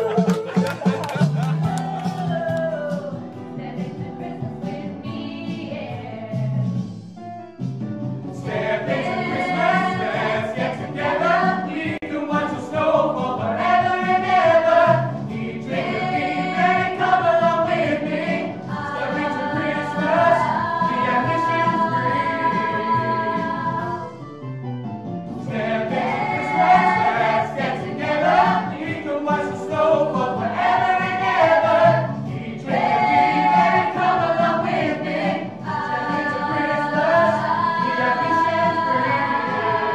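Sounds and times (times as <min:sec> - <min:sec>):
group of singers singing: 0:00.0 - 0:06.7, 0:08.3 - 0:24.2, 0:25.4 - 0:39.9.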